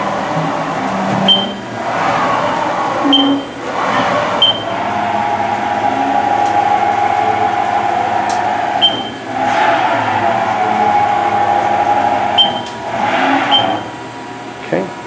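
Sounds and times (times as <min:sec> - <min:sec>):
machine motors whining: 0:00.0 - 0:14.8.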